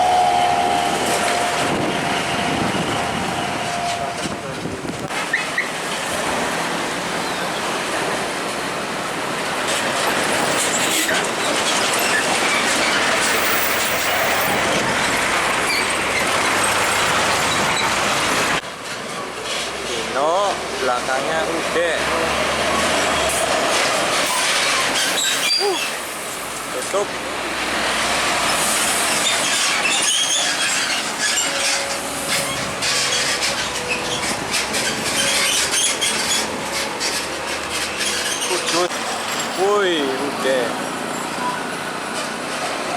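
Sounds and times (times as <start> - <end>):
heavy truck passing: 0.0 - 42.9.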